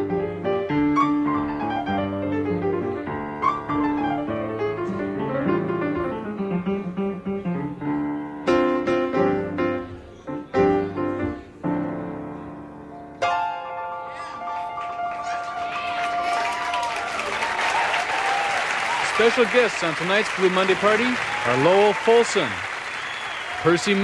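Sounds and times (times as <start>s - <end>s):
blues piano playing: 0.0s - 22.5s.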